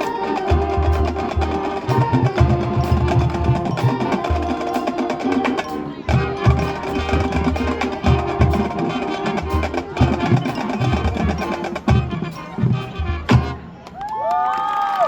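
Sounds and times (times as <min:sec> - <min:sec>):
marching band playing: 0:00.0 - 0:14.0.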